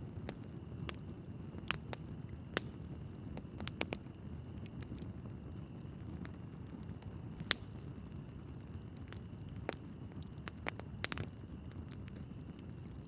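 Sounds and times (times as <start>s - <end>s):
burning logs crackling: 0.0s - 13.0s
fire flames rumbling: 0.0s - 13.0s.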